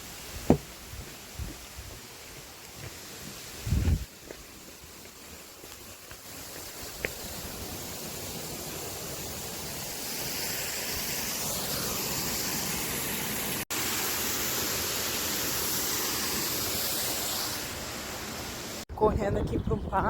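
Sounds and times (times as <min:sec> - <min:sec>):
waterfall rushing water: 0:01.9 - 0:18.8.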